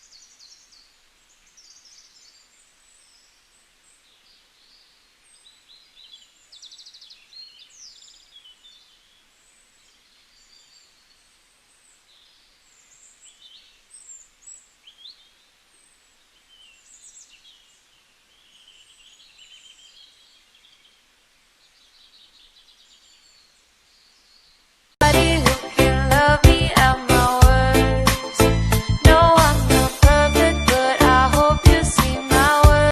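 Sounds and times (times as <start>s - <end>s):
faint background hiss: 0.0s - 28.8s
songbirds chirping: 0.0s - 32.9s.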